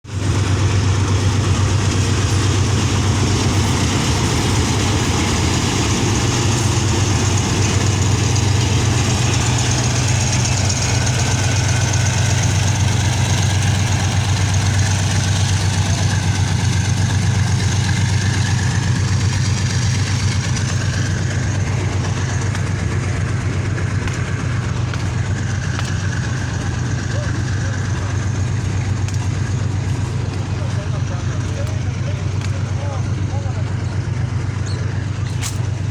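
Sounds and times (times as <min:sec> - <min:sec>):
rail vehicle engine humming: 0:00.0 - 0:35.9.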